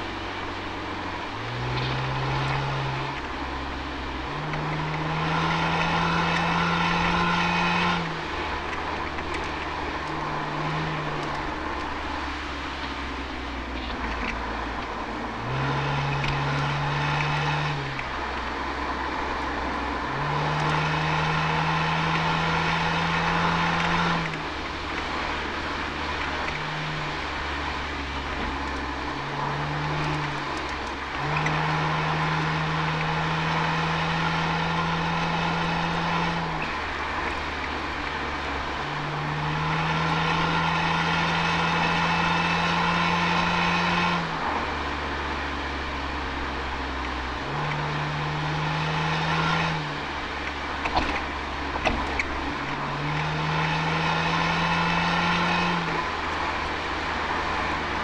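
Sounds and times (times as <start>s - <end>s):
car exhaust revving: 0.0s - 58.0s.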